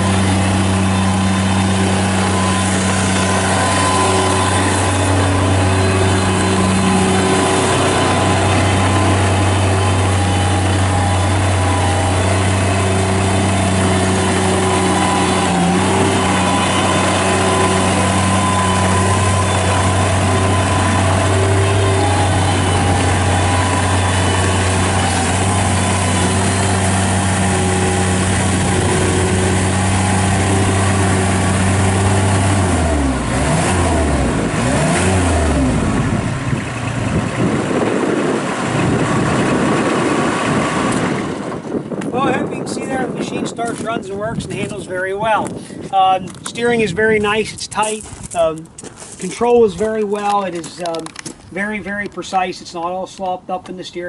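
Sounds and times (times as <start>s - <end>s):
diesel engine running: 0.0s - 52.6s.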